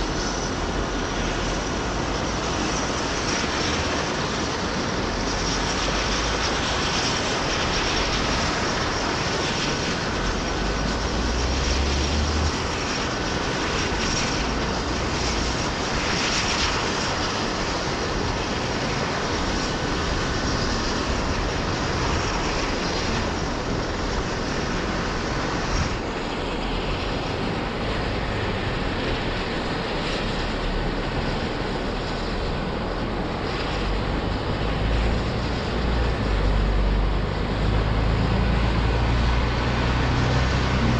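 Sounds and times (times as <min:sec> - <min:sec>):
distant helicopter turbines and rotor: 0:00.0 - 0:40.9.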